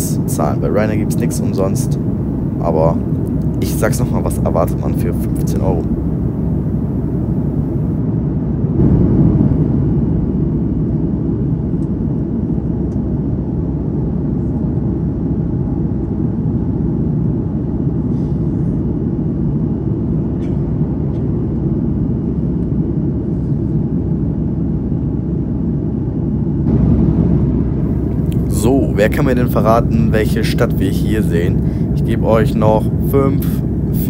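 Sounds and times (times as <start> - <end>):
airplane cabin roar: 0.0 - 34.0.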